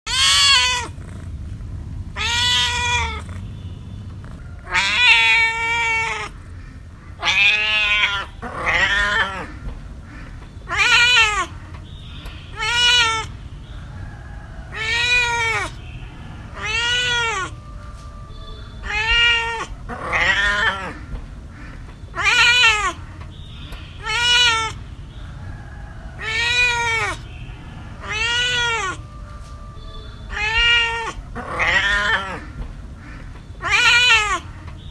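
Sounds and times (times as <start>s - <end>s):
cat meowing: 0.1s - 11.6s, 12.5s - 13.4s, 14.7s - 21.1s, 21.7s - 23.2s, 24.0s - 24.8s, 26.2s - 32.6s, 33.6s - 34.9s.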